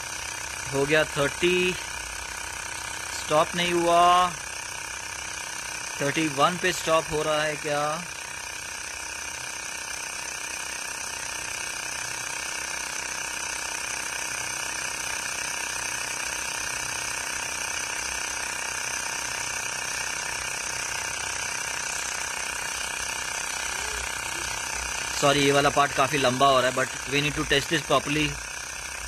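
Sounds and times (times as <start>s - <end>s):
electric compressor rattling: 0.0s - 29.0s.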